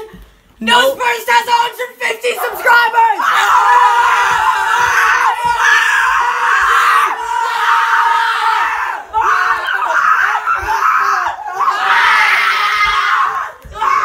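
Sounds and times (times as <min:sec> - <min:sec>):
boys screaming and yelling: 0:00.7 - 0:14.0.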